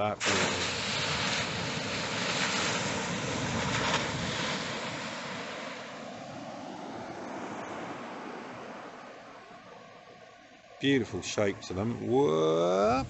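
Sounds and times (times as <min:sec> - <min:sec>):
surf breaking on reef: 0:00.0 - 0:13.0.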